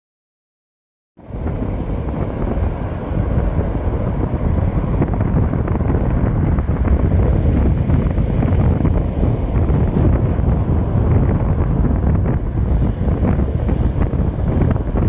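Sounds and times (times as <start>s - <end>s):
surf on pebbly beach: 1.2s - 15.0s
wind rumbling on microphone: 1.2s - 15.0s.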